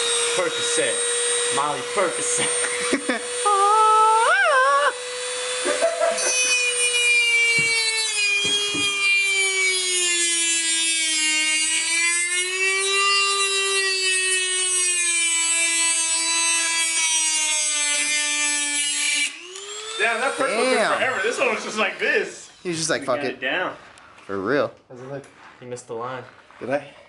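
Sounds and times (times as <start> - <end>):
rotary tool cutting wheel whine: 0.0 - 24.3.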